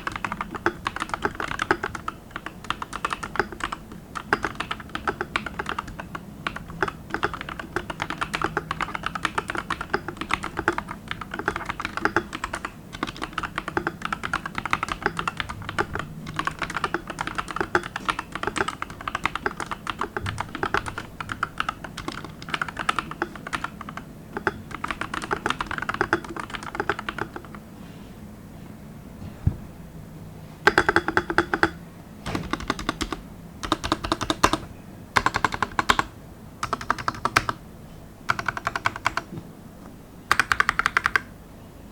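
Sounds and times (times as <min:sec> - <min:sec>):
mechanical keyboard typing: 0:00.0 - 0:27.6, 0:30.6 - 0:37.6, 0:38.3 - 0:39.4, 0:40.3 - 0:41.3.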